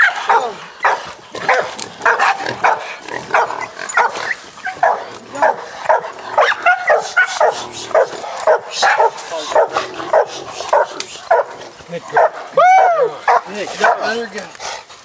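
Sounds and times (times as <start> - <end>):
dogs barking: 0.0 - 14.5.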